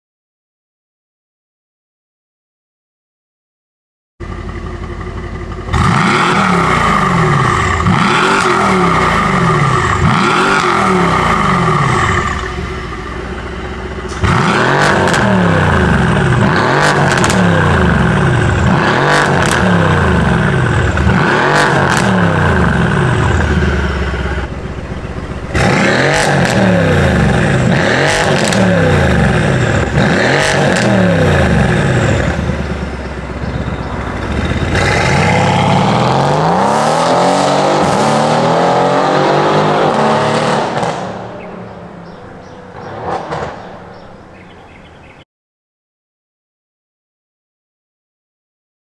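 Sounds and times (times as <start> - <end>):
exhaust cracks: 4.2 - 38.4, 39.8 - 44.8
car engine revving: 4.2 - 45.2.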